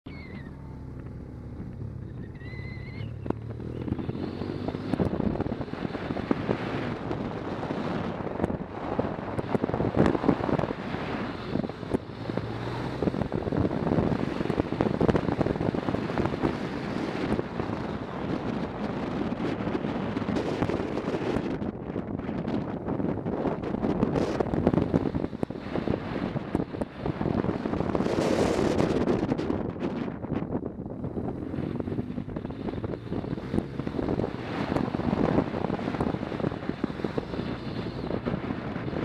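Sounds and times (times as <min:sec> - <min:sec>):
motorcycle engine running: 0:00.1 - 0:39.0
wind noise on microphone: 0:00.1 - 0:39.0.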